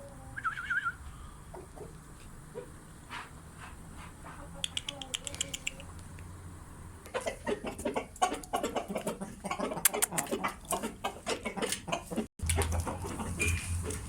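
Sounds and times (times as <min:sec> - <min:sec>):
rooster clucking: 0:00.0 - 0:02.9, 0:04.1 - 0:06.2, 0:07.0 - 0:14.0.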